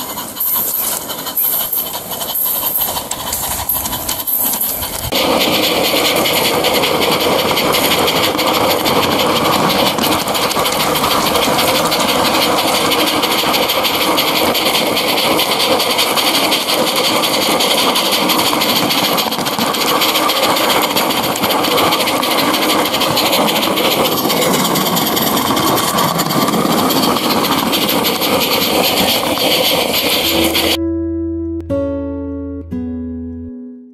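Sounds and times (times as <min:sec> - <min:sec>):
exhaust steam hissing: 0:00.0 - 0:30.8
model steam locomotive chuffing: 0:00.0 - 0:30.8.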